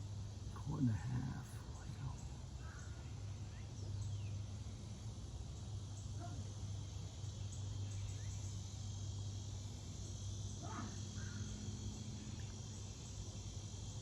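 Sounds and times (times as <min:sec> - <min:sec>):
constant low hum: 0:00.0 - 0:14.0
crickets trilling: 0:00.0 - 0:14.0.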